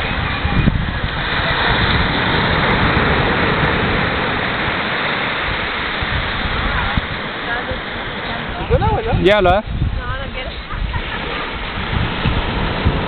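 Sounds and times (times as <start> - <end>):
ocean surf on rocky shore: 0.0 - 13.0.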